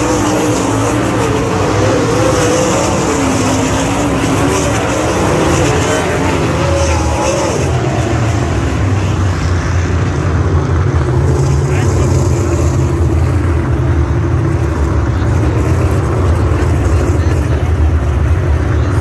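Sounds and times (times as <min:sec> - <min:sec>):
race car engines at full throttle: 0:00.0 - 0:19.0.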